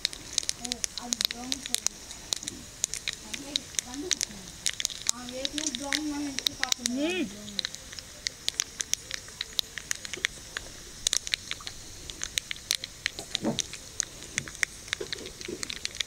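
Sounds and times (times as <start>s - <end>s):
faint oil sizzle: 0.0s - 16.0s
seeds popping in hot oil: 0.0s - 16.0s.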